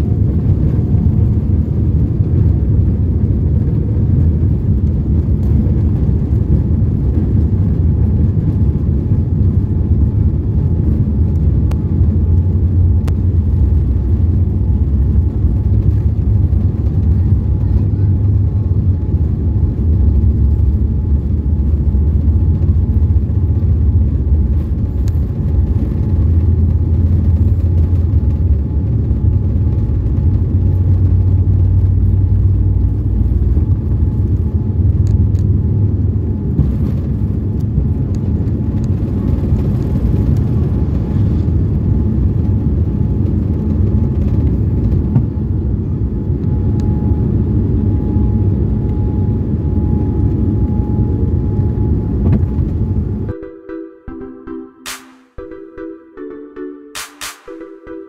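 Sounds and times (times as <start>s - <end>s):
jet engines at takeoff thrust: 0.0s - 53.3s
wheels rumbling on runway: 0.0s - 53.3s.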